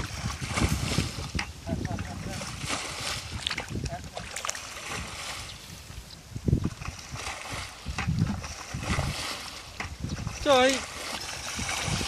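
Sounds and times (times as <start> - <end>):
shallow water sloshing and splashing: 0.0 - 6.0, 6.6 - 12.0.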